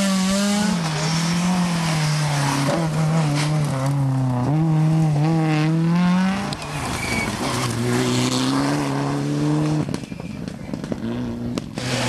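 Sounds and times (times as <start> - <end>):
rally car engines at full throttle: 0.0 - 12.0.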